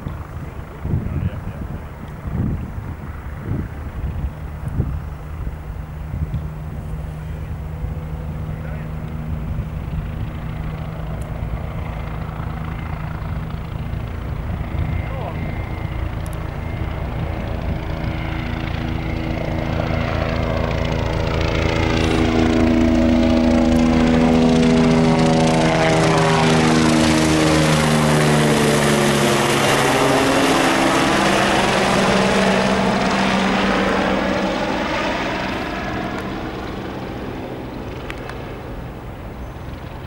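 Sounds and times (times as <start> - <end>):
helicopter flying past: 0.0 - 40.0.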